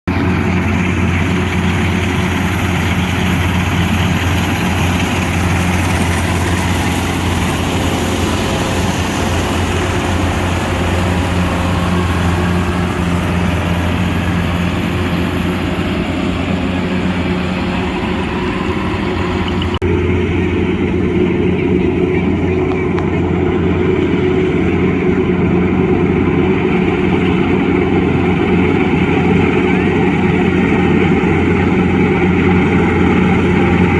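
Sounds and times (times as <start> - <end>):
combine harvester engine humming: 0.0 - 33.9.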